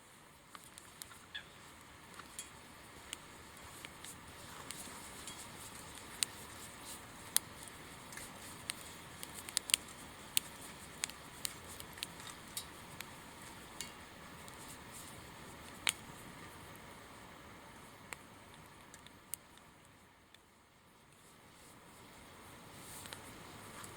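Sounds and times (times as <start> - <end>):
faint steady hiss: 0.0 - 23.9
wood fire crackling in stove: 0.0 - 23.9.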